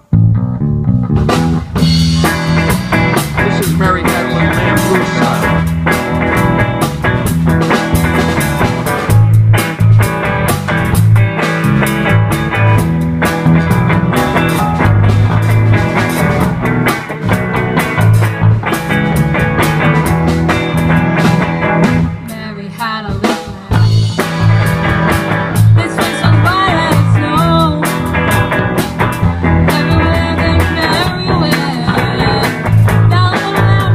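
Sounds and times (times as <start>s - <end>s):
bending lead guitar line: 0.0s - 33.9s
rock band playing: 0.0s - 33.9s.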